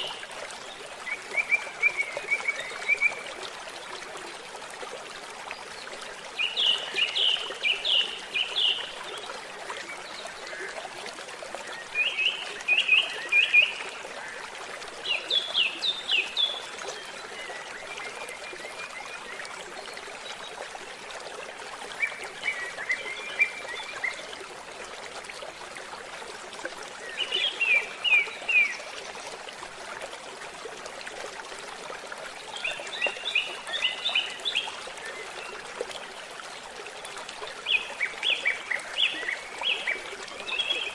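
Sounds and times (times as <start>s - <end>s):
stream trickling and gurgling: 0.0s - 40.9s.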